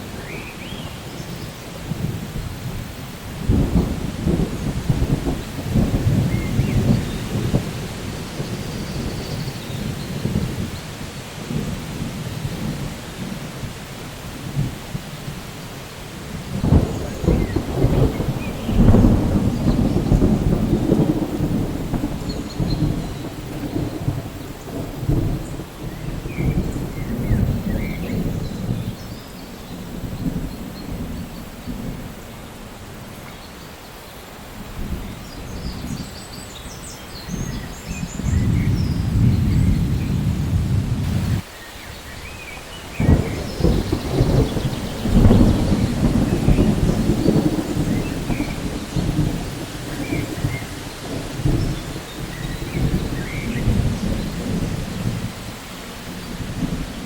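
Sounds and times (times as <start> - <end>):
thunder rumbling: 0.0 - 33.2, 36.8 - 41.5, 42.1 - 57.0
rain falling: 0.0 - 57.0.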